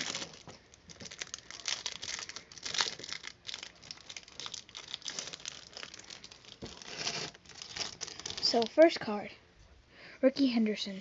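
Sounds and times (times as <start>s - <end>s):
plastic wrapper crinkling: 0.0s - 9.0s.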